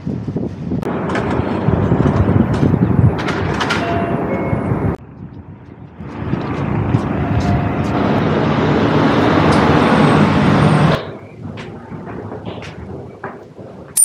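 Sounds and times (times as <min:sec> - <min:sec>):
city street traffic: 0:00.0 - 0:14.0
rush of vehicle noise: 0:00.0 - 0:14.0.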